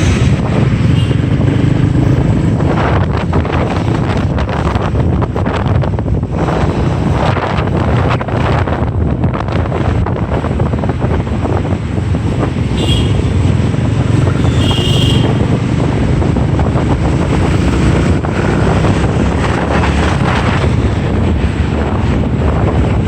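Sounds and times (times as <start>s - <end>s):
motorbike running: 0.0s - 23.0s
surrounding traffic: 0.0s - 23.0s
wind buffeting microphone: 0.0s - 23.0s.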